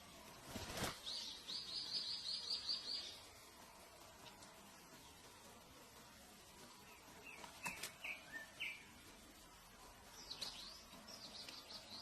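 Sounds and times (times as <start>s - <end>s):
faint steady background noise: 0.0s - 12.0s
birds chirping: 0.2s - 12.0s.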